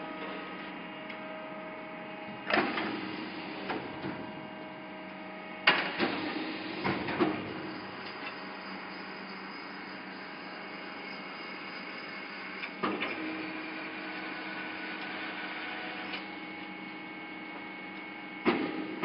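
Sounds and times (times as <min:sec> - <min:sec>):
machine electric hum: 0:00.0 - 0:19.0.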